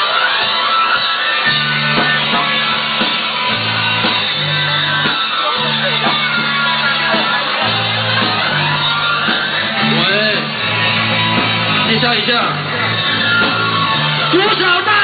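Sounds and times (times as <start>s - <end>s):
live rock band playing: 0.0s - 15.0s
low bass line: 1.6s - 15.0s.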